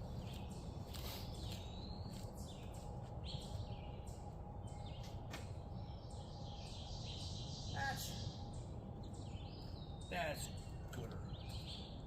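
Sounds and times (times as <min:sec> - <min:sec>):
birds chirping faintly: 0:00.0 - 0:12.0
low outdoor rumble: 0:00.0 - 0:12.0.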